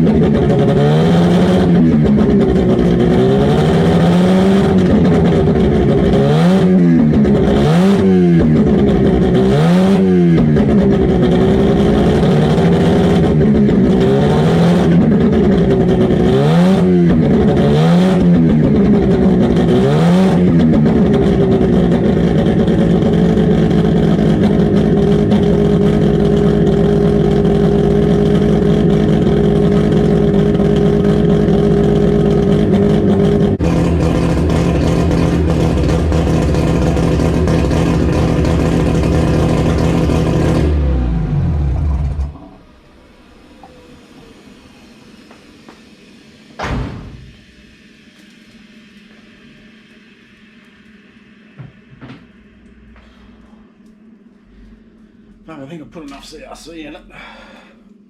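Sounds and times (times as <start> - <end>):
car engine revving and idling: 0.0 - 58.0.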